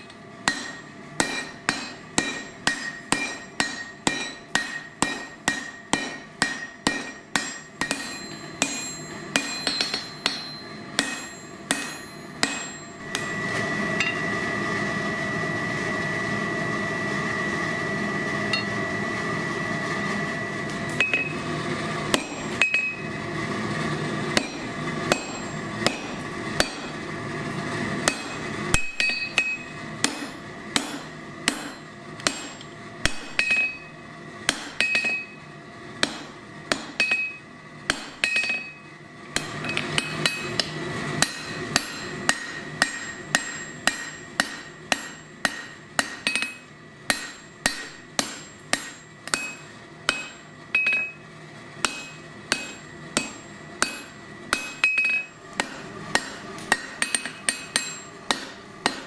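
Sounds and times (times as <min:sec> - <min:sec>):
hammer striking hot steel on anvil: 0:00.0 - 0:14.3, 0:18.5 - 0:18.8, 0:20.9 - 0:21.5, 0:22.1 - 0:23.2, 0:24.3 - 0:27.1, 0:28.0 - 0:59.0.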